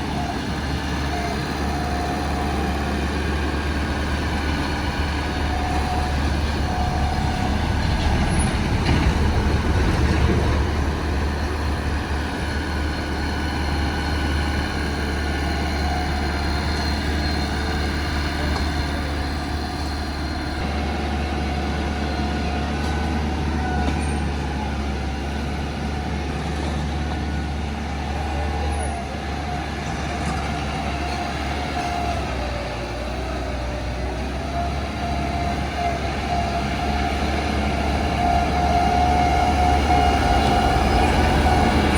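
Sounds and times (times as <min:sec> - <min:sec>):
bulldozer diesel drone: 0:00.0 - 0:41.9.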